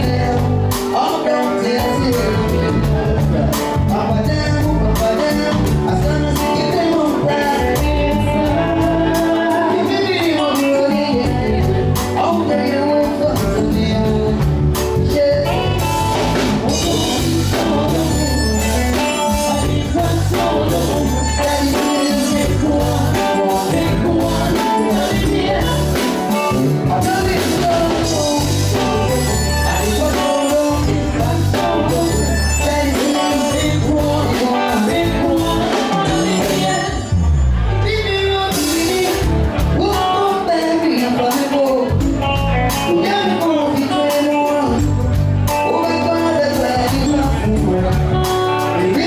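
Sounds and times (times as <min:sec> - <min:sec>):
band playing with singing: 0:00.0 - 0:49.0.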